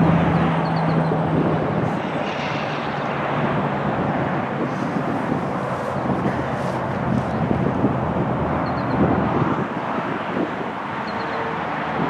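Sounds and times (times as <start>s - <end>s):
continuous rushing noise: 0.0s - 12.0s
distant engine drone: 0.0s - 12.0s.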